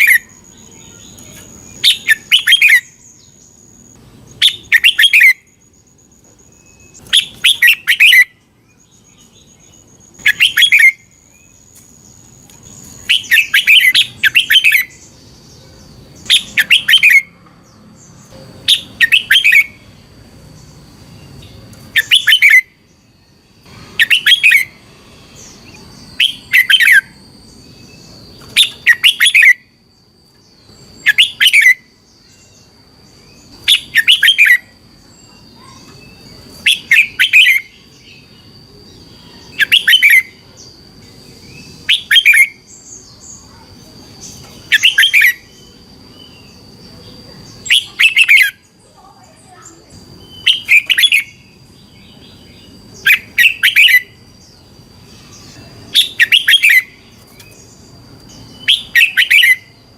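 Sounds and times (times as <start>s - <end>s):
bulbul singing bright phrases: 0.0s - 59.9s
faint steady high tone: 0.0s - 59.9s.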